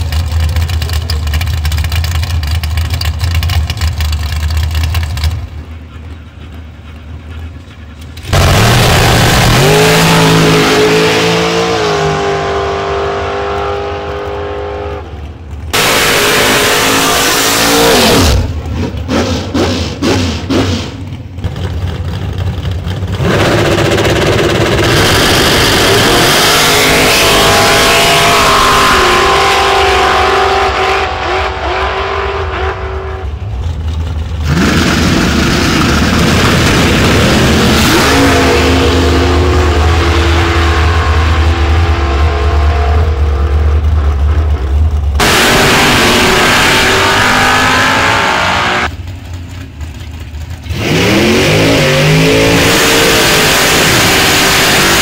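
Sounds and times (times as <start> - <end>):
drag racing engines revving: 0.0 - 55.0.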